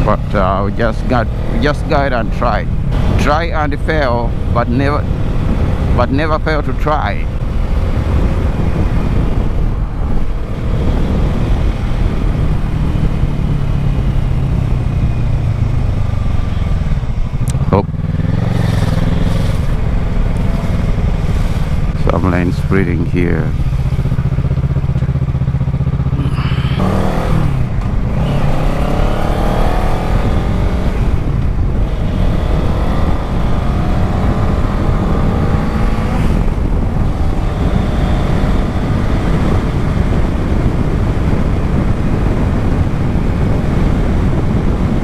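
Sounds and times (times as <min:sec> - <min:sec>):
motorcycle engine accelerating: 0:00.0 - 0:45.0
wind rushing over microphone: 0:00.0 - 0:45.0.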